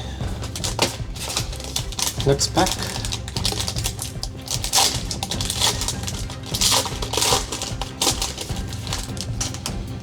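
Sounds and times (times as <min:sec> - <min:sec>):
background music: 0:00.0 - 0:10.0
wrapper crinkling and tearing: 0:00.3 - 0:09.8.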